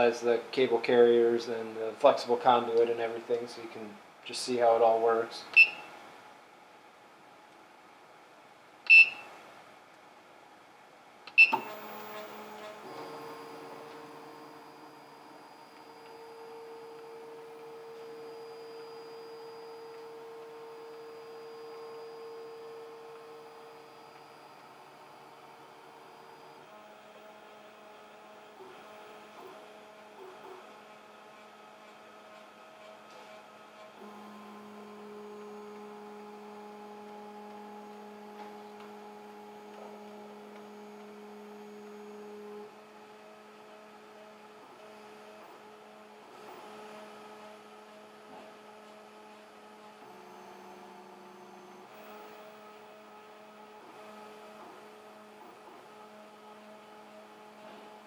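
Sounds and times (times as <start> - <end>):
stepper motors humming: 11.5 - 58.0.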